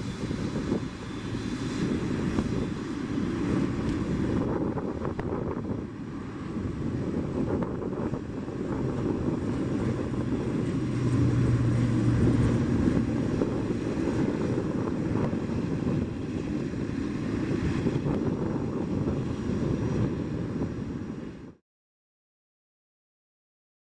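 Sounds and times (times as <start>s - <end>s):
jet engines rushing: 0.0s - 21.6s.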